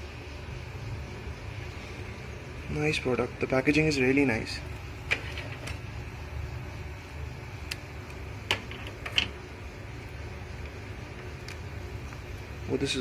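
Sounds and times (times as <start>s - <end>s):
steady low fan hum: 0.0s - 13.0s.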